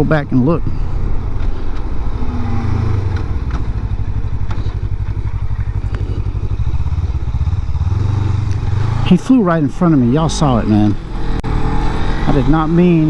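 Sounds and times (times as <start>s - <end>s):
motorcycle engine at low revs: 0.8s - 13.0s.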